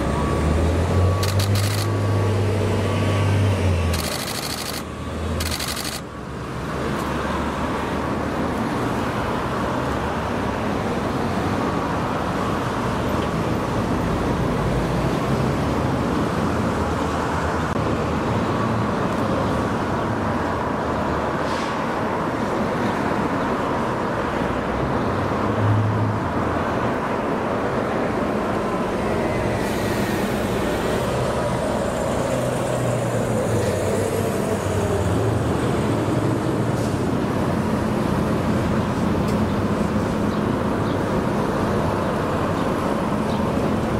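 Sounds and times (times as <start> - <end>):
cars passing on street: 0.0 - 43.9.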